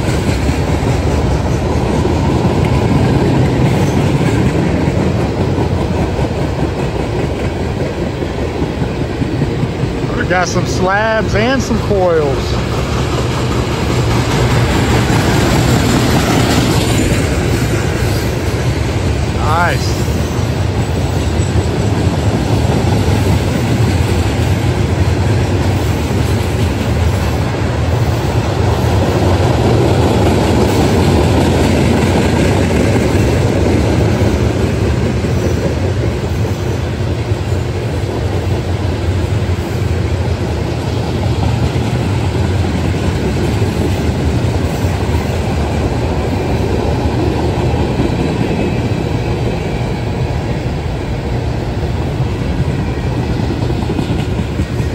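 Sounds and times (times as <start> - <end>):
train wheels on rails: 0.0 - 54.9.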